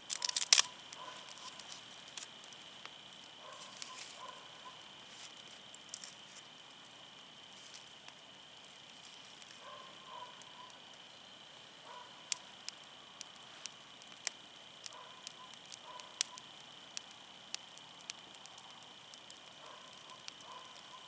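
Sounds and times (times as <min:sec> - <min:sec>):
firewood popping: 0:00.0 - 0:21.0
wood fire crackling: 0:00.0 - 0:21.0.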